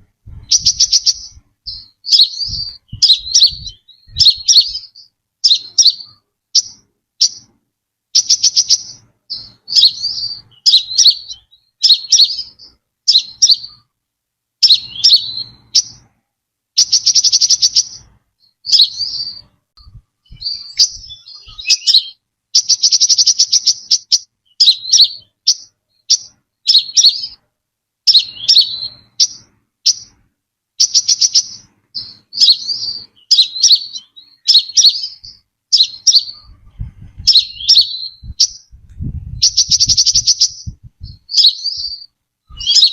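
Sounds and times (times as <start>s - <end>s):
bird chirping: 0.0s - 14.0s, 14.6s - 42.9s
bird rapid trill: 0.4s - 7.5s, 8.2s - 13.9s, 14.6s - 16.0s, 16.8s - 27.4s, 28.1s - 30.2s, 30.8s - 42.9s.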